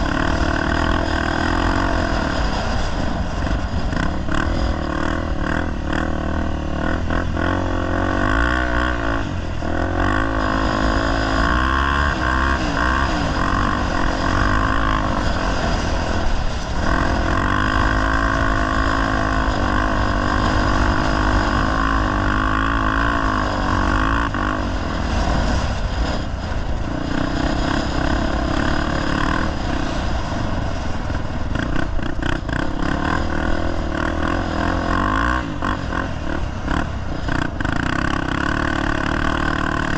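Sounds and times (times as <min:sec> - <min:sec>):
motorcycle engine under load: 0:00.0 - 0:39.9
wind rumble on microphone: 0:00.0 - 0:39.9.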